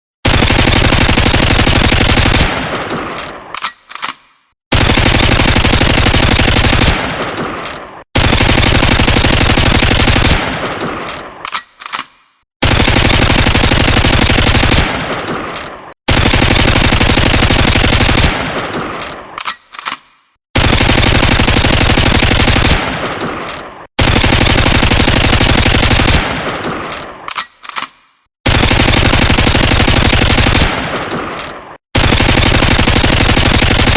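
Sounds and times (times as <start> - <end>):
submachine gun automatic bursts: 0.2 - 4.1, 4.7 - 11.5, 12.6 - 19.6, 20.6 - 27.1, 28.5 - 33.9.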